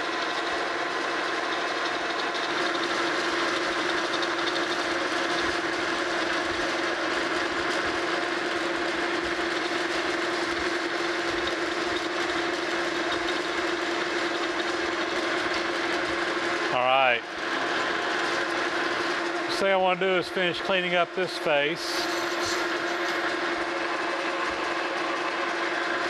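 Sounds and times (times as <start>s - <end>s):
metal lathe humming: 0.0s - 26.0s.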